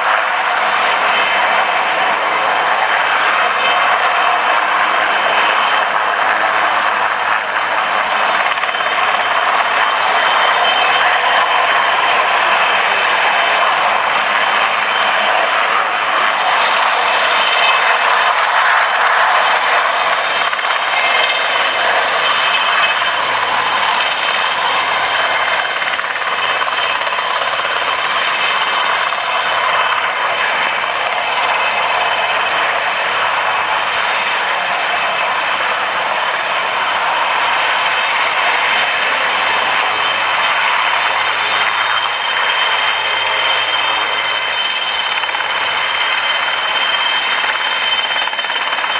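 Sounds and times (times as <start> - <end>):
helicopter engines and rotor: 0.0 - 48.9.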